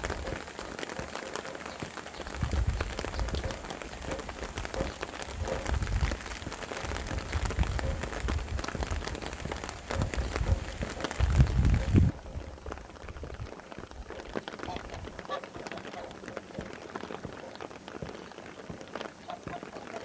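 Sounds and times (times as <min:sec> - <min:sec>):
wind buffeting microphone: 0:00.0 - 0:18.1
rain pattering: 0:00.0 - 0:20.0.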